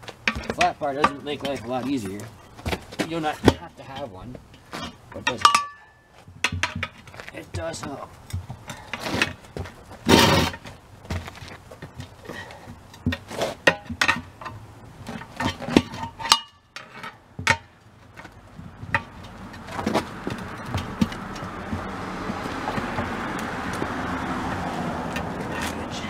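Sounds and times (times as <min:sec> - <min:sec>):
pry bars scraping a wheel rim: 0:00.2 - 0:11.6, 0:12.3 - 0:26.0.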